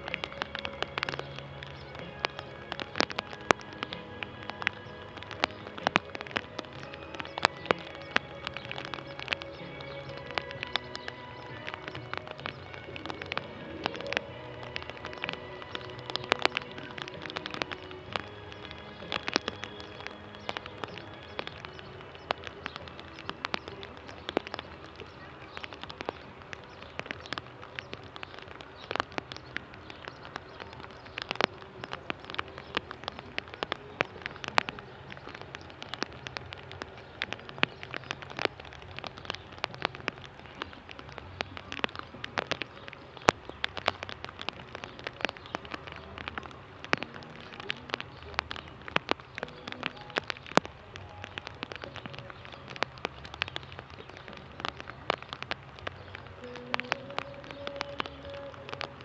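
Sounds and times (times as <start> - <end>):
raindrops tapping: 0.0 - 59.0
steady hiss of rain: 0.0 - 59.0.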